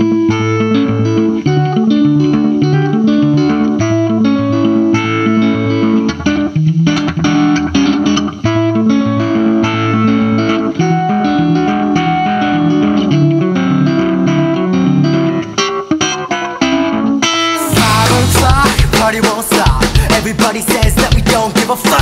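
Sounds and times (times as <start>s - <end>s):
garage rock band guitar riff: 0.0s - 22.0s.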